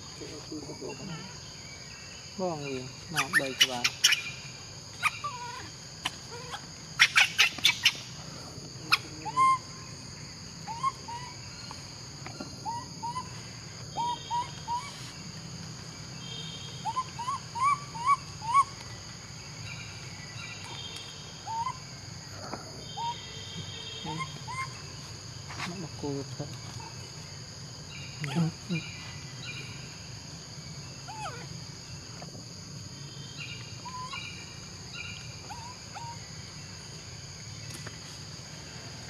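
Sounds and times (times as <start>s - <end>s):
high insect drone: 0.0s - 39.0s.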